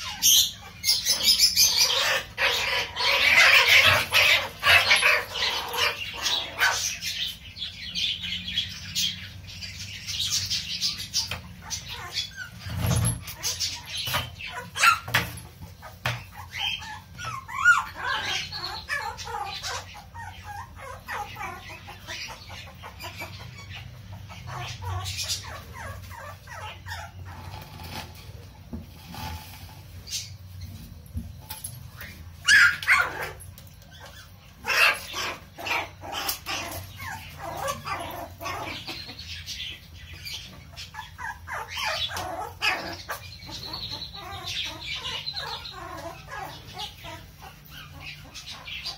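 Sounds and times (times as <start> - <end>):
puppies squeaking and yipping: 0.0 - 48.9.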